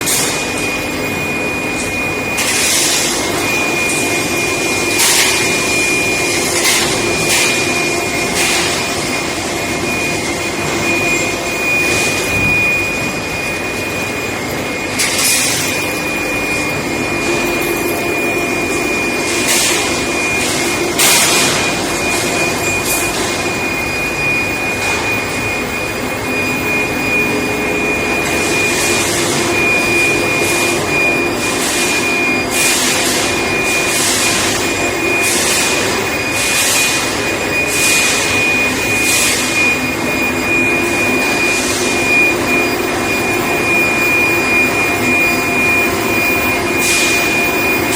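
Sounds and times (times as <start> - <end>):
industrial machine whine: 0.0 - 47.9.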